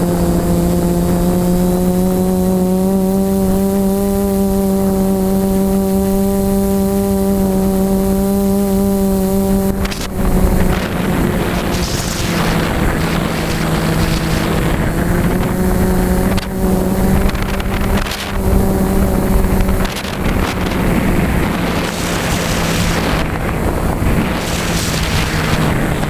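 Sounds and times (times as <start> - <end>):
drone propellers humming: 0.0 - 26.0
wind buffeting microphone: 0.0 - 26.0.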